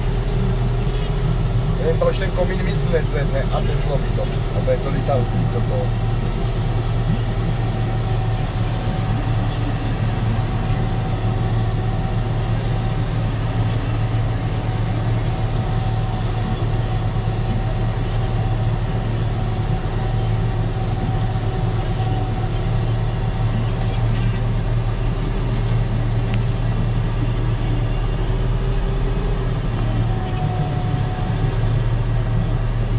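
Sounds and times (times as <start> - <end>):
diesel engine drone in cab: 0.0 - 32.9.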